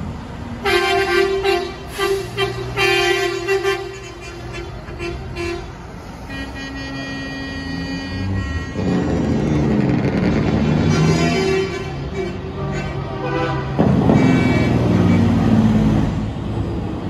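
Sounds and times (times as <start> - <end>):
diesel truck rumble: 0.0 - 17.0
truck air horn blasts: 0.6 - 16.0.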